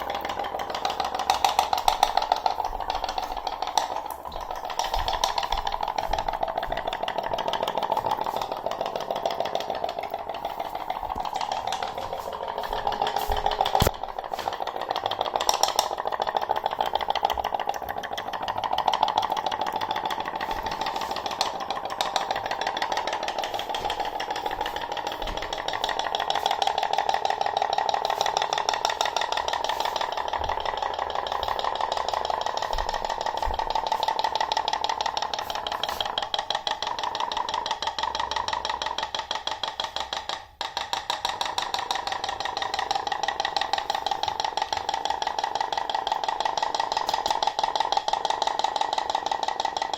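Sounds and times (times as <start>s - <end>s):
toy boat engine popping: 0.0s - 49.9s.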